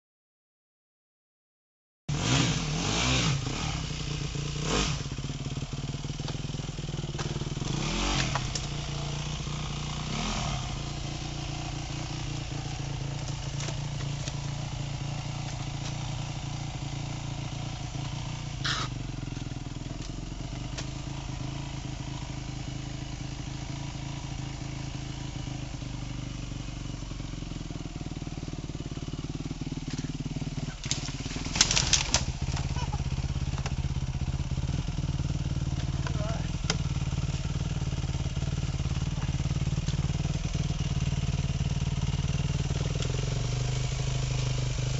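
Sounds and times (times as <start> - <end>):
motorcycle engine revving: 2.1 - 44.9.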